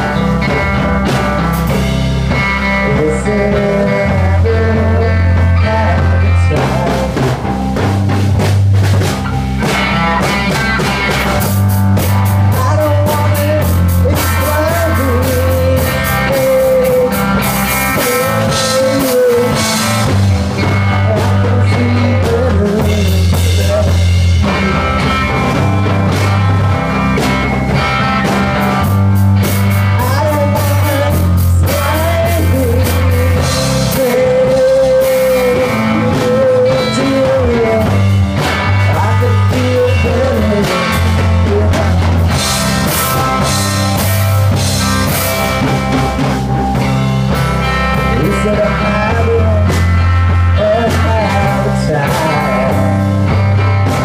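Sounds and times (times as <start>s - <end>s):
bass line: 0.0s - 54.0s
drum kit: 0.0s - 54.0s
electric guitar: 0.0s - 54.0s.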